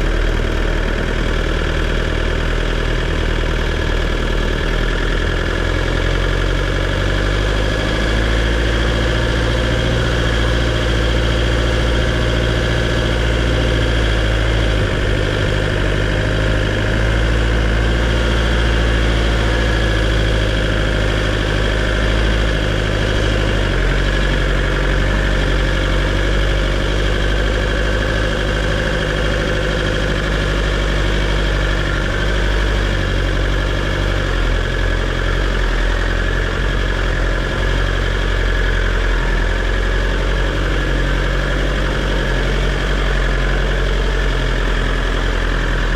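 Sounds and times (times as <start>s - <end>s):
engine low drone: 0.0s - 45.9s.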